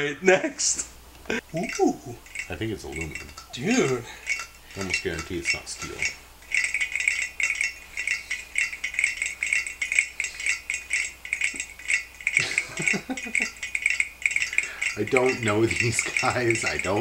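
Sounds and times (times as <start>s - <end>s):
metal parts rattling: 1.3s - 17.0s.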